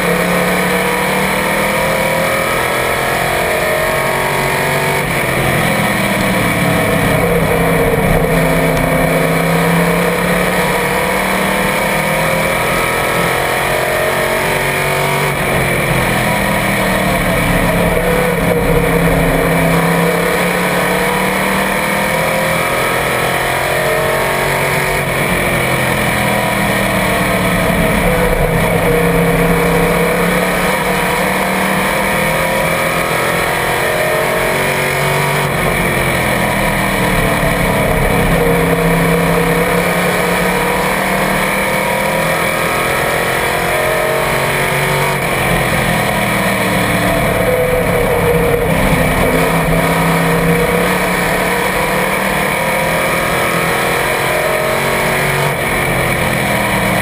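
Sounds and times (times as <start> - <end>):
race car engine: 0.0 - 57.0.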